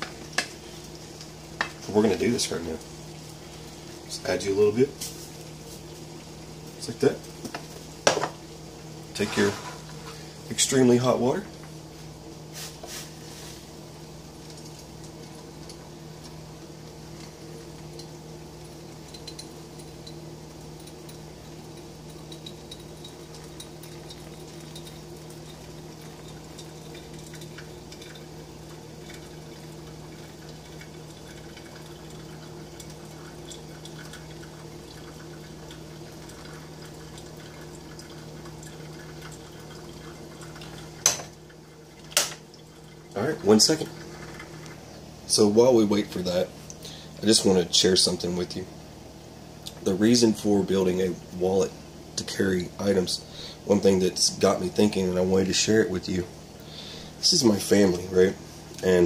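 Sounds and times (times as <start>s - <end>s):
water trickling into coffee filter: 0.0s - 48.5s.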